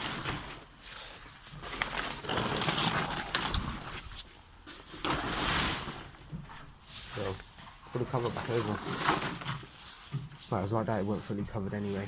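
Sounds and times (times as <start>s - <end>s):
car cover rustling and scraping: 0.0s - 12.0s.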